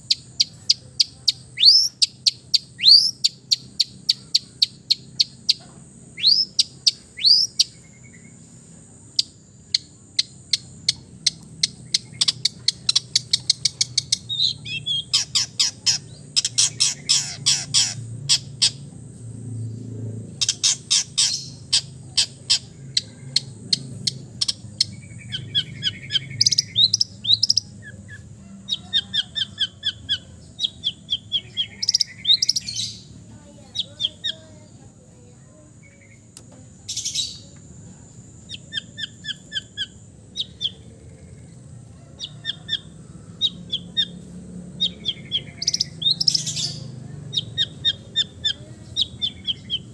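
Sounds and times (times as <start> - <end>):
shrike singing: 0.0 - 8.5, 9.1 - 49.9.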